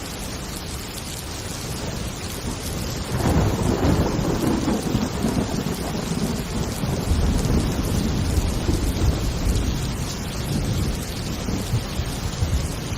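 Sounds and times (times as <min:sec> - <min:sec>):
heavy rain: 0:00.0 - 0:12.9
thunder rumbling: 0:01.7 - 0:12.9.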